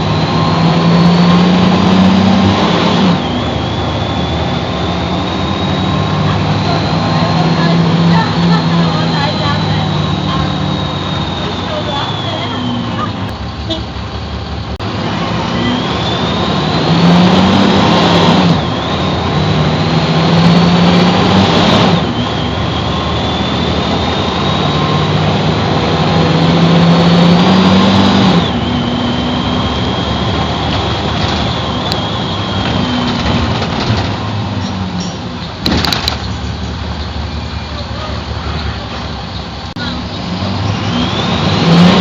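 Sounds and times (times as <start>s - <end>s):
bus engine accelerating: 0.0s - 42.0s
high engine whine: 0.0s - 42.0s.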